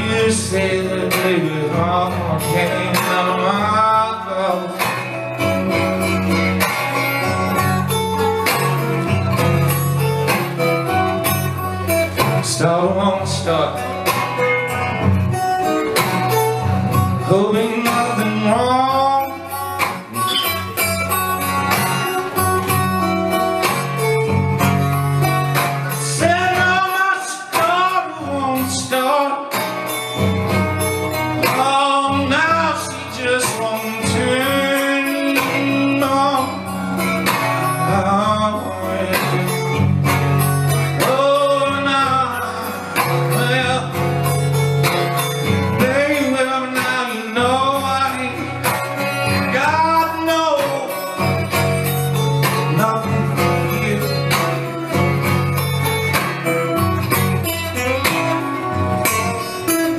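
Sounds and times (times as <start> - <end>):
acoustic guitar blues playing: 0.0 - 59.9.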